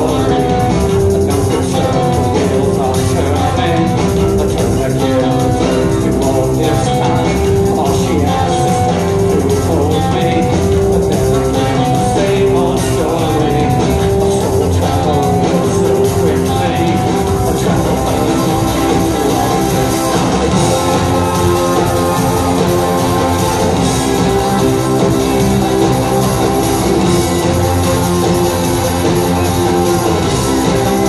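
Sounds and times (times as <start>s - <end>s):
drum kit: 0.0s - 31.0s
electric bass: 0.0s - 31.0s
electric guitars: 0.0s - 31.0s
lead vocal singing: 0.0s - 31.0s.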